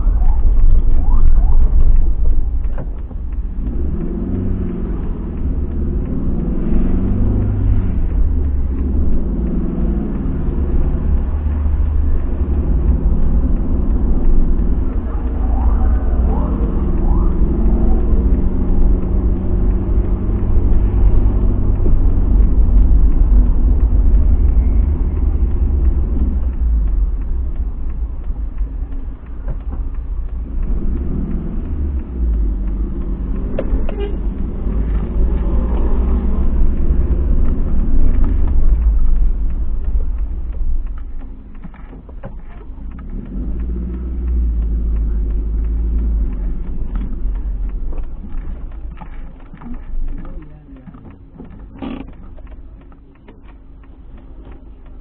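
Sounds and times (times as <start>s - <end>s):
car engine: 0.0s - 55.0s
road rumble inside car cabin: 0.0s - 55.0s.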